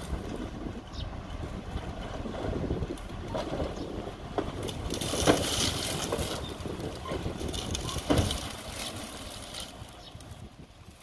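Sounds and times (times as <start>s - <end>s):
heavy machinery engine rumble: 0.0s - 11.0s
soil and rock crunching: 0.0s - 11.0s.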